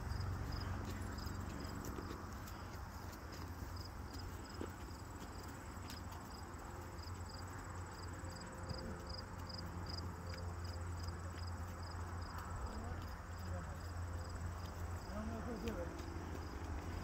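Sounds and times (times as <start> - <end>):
high insect trill: 0.0 - 17.0
horse hooves on soft dirt: 0.0 - 17.0
insects chirping: 0.0 - 17.0.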